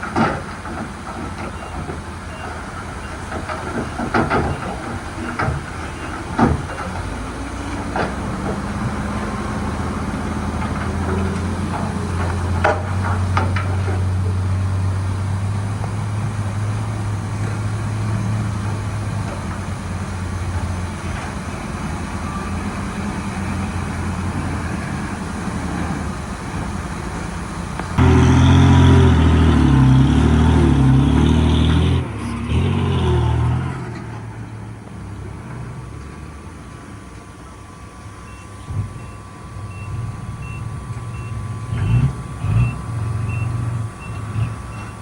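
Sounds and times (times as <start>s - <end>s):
diesel machinery humming: 0.0s - 45.0s
stepped shifting tones: 0.0s - 45.0s.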